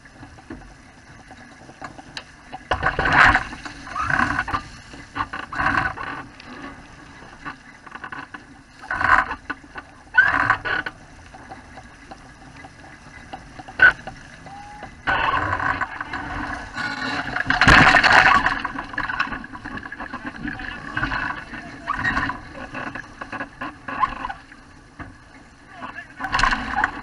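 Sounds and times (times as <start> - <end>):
water rushing along hull: 0.0 - 27.0.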